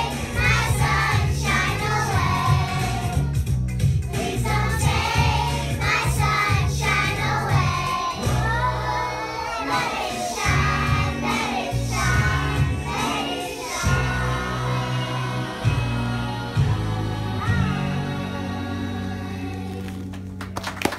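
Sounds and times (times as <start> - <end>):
children singing: 0.0 - 3.4, 4.1 - 19.7
musical accompaniment with bass: 0.0 - 20.9.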